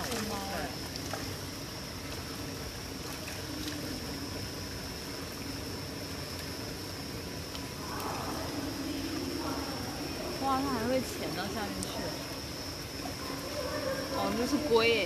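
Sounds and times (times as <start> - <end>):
water trickling: 0.0 - 15.0.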